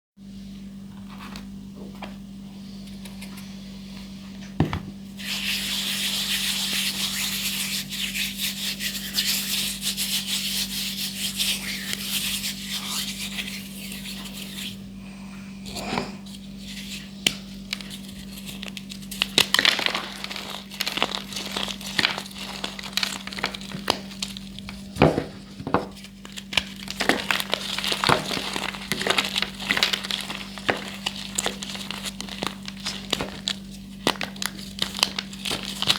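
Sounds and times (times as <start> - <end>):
chalk cracking and crunching: 5.2 - 14.8, 16.6 - 35.9
chalk crumbling: 5.2 - 14.8, 16.6 - 35.9.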